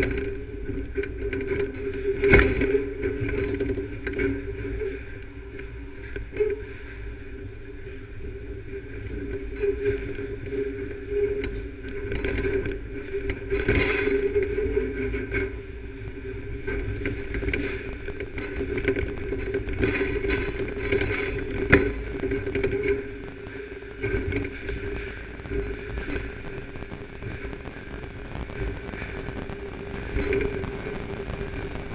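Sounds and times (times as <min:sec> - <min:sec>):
muffled machinery rumble and hum: 0:00.0 - 0:31.9.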